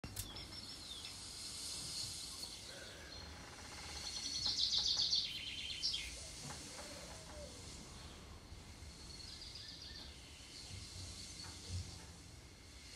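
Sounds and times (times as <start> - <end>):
steady background hiss: 0.0 - 12.9
small birds chirping: 0.1 - 11.8.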